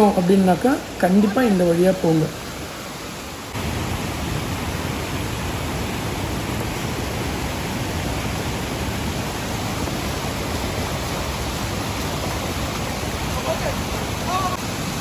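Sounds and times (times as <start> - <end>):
large waterfall rushing: 0.0 - 15.0.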